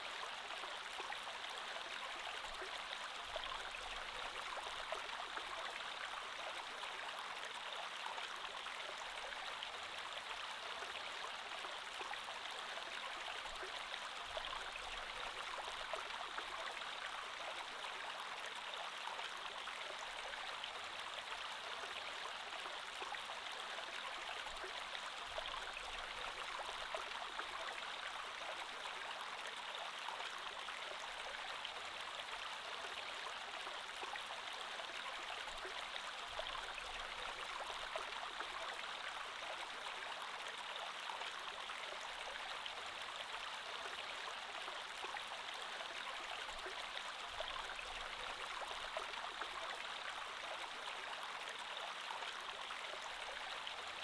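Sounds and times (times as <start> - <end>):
creek water flowing over stones: 0.0 - 54.0.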